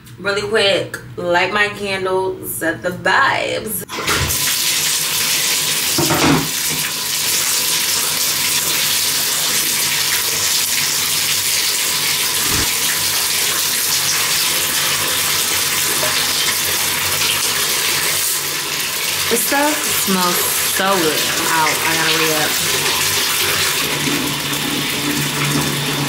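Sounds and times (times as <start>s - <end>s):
water pouring into bathtub: 3.9s - 26.0s.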